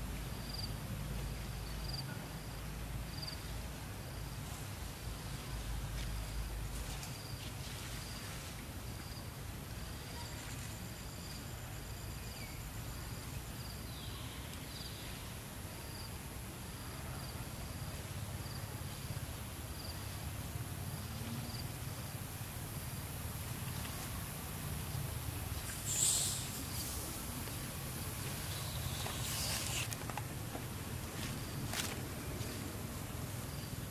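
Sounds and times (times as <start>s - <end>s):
insect chirping: 0.2s - 4.4s, 7.1s - 32.0s, 33.0s - 33.9s.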